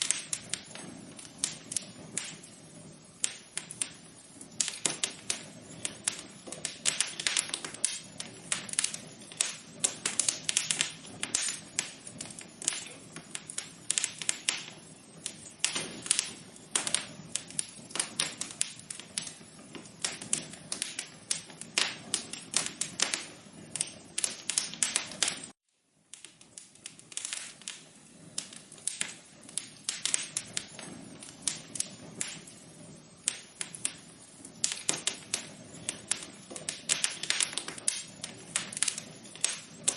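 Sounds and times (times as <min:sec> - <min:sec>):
low hiss: 0:00.0 - 0:39.9
wood fire crackling and popping: 0:00.0 - 0:39.9.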